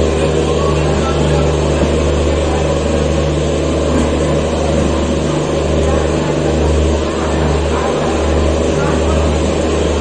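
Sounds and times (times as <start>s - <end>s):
low drone: 0.0s - 10.0s
train running noise: 0.0s - 10.0s.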